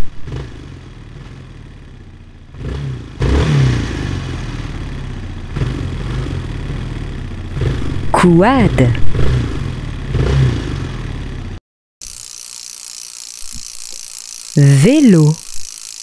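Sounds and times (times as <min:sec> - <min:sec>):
quad bike engine revving: 0:00.1 - 0:16.0.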